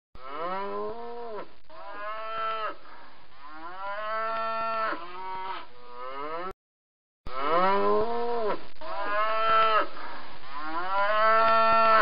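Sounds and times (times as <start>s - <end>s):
cattle mooing: 0.2s - 2.8s, 3.4s - 6.5s, 7.3s - 9.9s, 10.5s - 12.0s.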